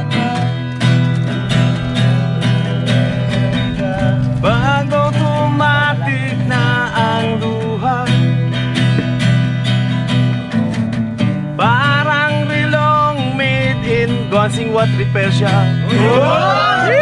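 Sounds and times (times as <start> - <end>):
man singing: 0.0 - 9.0, 11.6 - 17.0
acoustic guitar strumming: 0.0 - 17.0.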